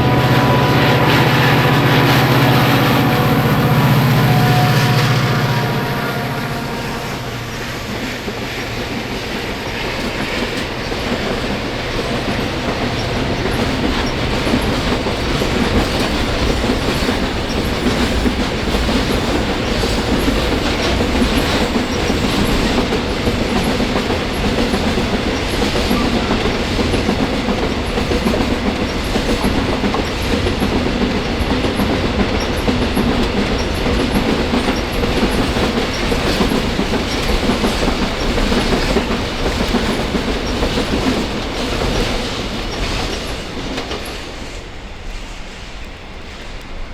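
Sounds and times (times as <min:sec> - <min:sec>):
train wheels clicking over rail joints: 0:07.8 - 0:46.8.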